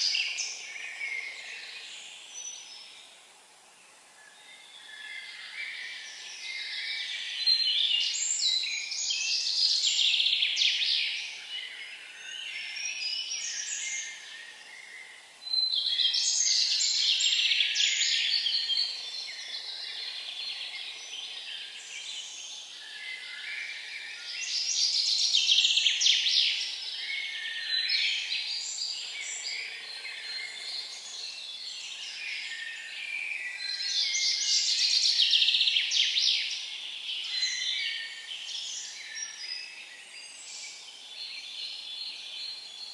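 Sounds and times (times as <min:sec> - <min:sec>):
quiet bird chirping: 0:00.0 - 0:42.9
songbird singing: 0:00.0 - 0:42.9.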